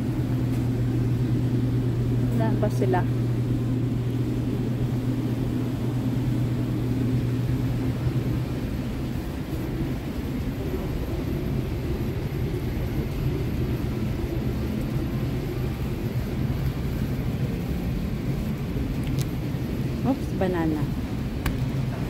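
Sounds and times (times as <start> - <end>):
refrigerator hum: 0.0 - 22.0.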